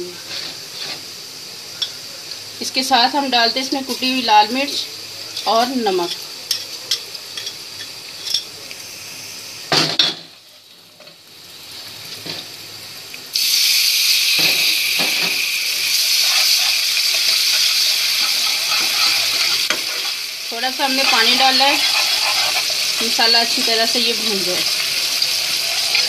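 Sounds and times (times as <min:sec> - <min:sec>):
garlic sizzling in hot oil: 0:00.0 - 0:26.0
water hissing in hot oil: 0:00.0 - 0:26.0.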